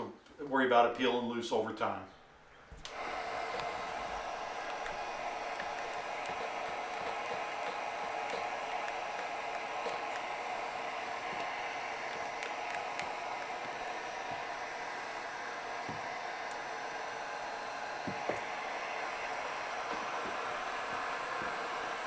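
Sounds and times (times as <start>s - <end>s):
heat gun blowing hiss: 2.7s - 22.0s.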